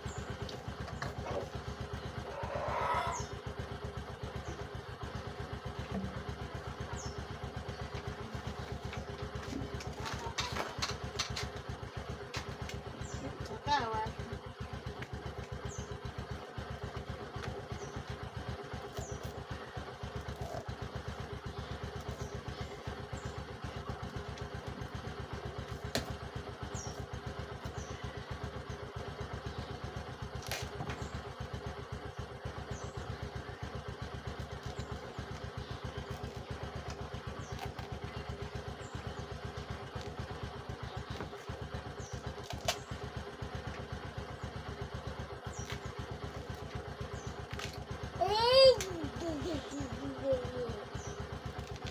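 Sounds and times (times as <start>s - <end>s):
small engine chugging: 0.0s - 51.9s.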